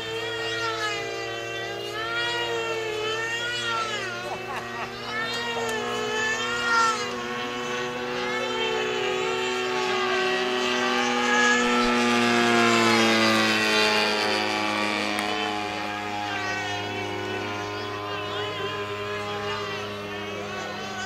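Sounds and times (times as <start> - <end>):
model airplane engine: 0.0 - 21.0.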